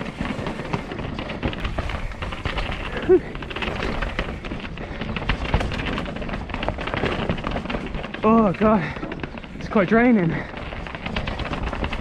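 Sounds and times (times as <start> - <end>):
chain and frame rattling: 0.0 - 12.0.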